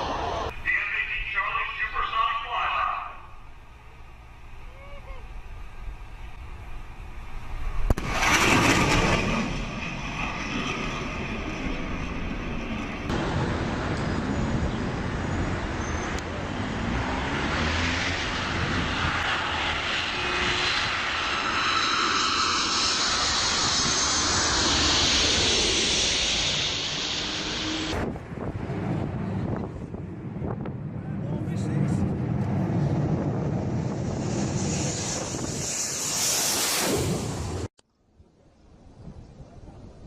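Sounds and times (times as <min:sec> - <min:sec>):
jet aircraft passing overhead: 0:00.0 - 0:37.7.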